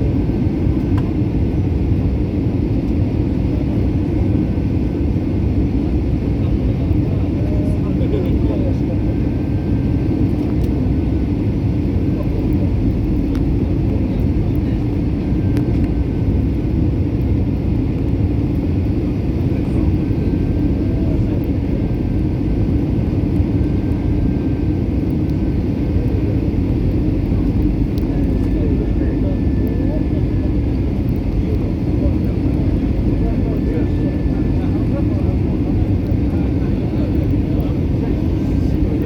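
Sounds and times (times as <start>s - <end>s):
airliner engine drone in cabin: 0.0s - 39.0s.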